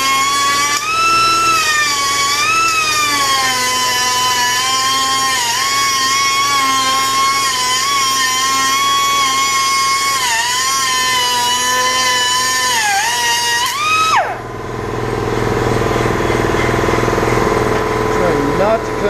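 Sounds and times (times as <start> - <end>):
power cut-off tool whining: 0.0 - 18.8.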